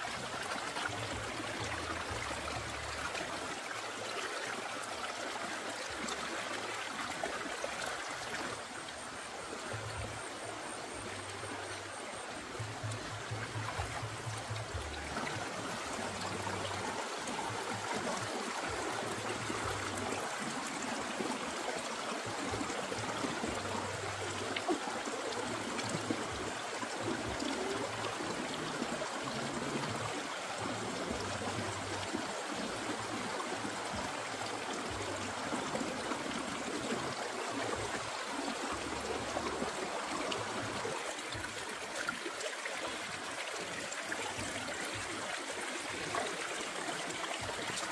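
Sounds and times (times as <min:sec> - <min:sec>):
stream trickling over rocks: 0:00.0 - 0:47.9.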